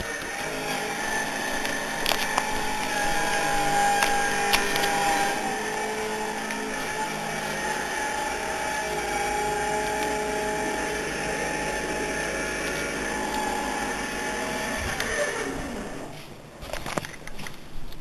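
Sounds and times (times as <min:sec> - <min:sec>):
mechanical whirring: 0:00.0 - 0:16.2.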